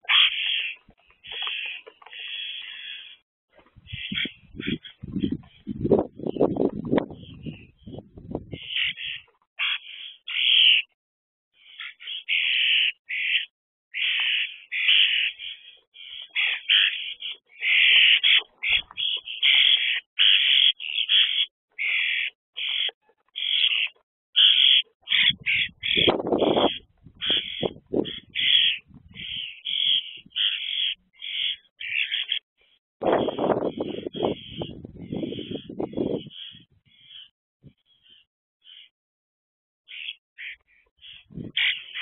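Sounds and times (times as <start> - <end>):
young starlings begging calls: 0.0 - 11.0, 11.6 - 38.9, 39.9 - 42.0.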